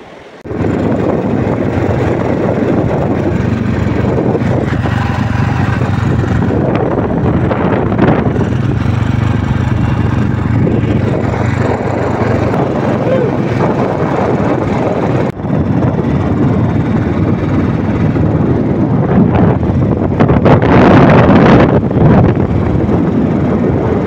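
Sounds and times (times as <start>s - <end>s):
motorbike engine hum: 0.0s - 24.0s
wind rush on microphone: 0.4s - 24.0s.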